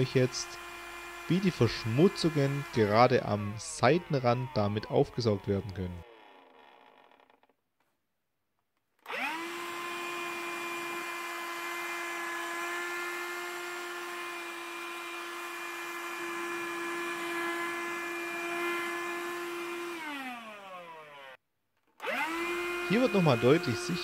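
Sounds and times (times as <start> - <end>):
handheld vacuum motor whining: 0.0 - 7.6, 9.0 - 24.0.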